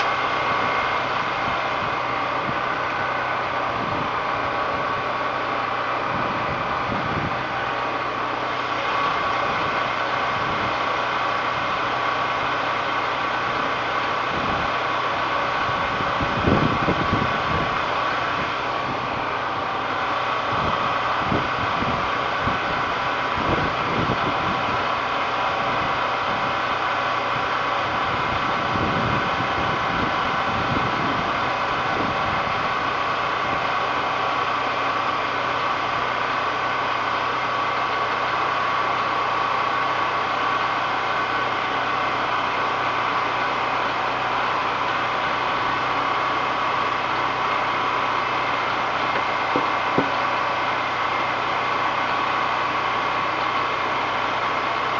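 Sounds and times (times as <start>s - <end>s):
generator engine running: 0.0s - 54.9s.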